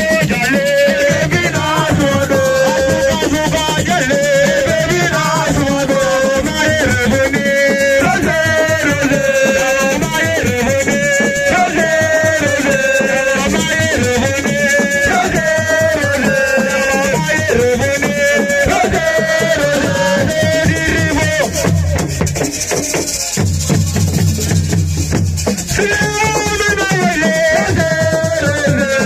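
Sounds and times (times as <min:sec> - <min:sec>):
hand percussion and shakers: 0:00.0 - 0:29.0.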